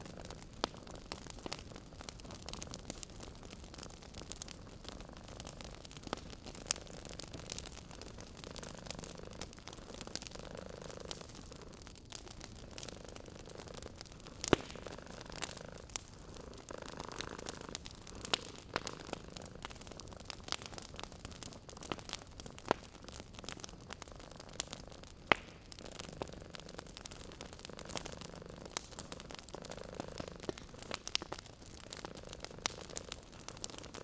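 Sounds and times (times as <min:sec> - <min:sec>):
cat purring: 0:00.0 - 0:23.8, 0:24.4 - 0:34.0
wood fire crackling: 0:00.0 - 0:34.0.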